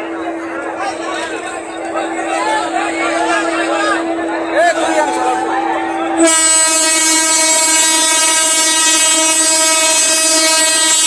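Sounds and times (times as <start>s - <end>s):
locomotive horn blast: 0.1s - 11.0s.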